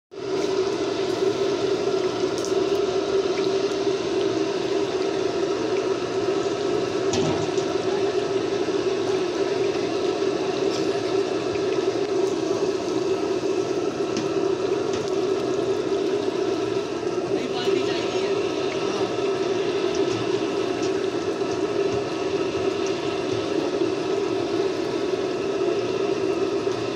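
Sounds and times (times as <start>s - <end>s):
food deep-frying in oil: 0.1s - 26.9s
oil popping: 1.7s - 26.9s.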